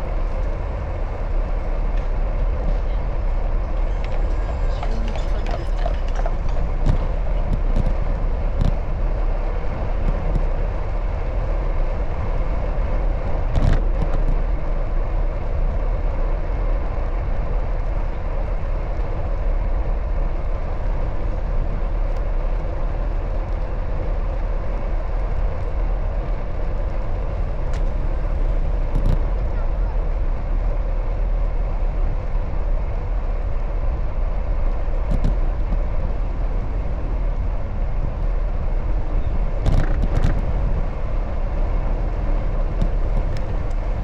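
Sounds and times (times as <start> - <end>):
road noise: 0.0 - 44.0
wind rumble: 0.0 - 44.0.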